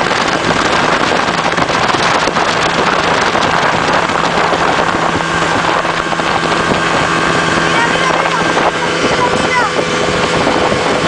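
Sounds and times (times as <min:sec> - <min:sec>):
motorboat engine hum: 0:00.0 - 0:11.0
water and spray rushing: 0:00.0 - 0:11.0.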